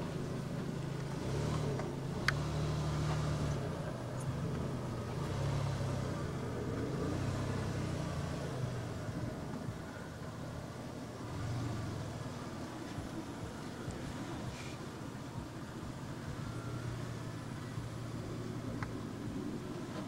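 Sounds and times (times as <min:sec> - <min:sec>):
truck engine revving at low speed: 0:00.0 - 0:20.0.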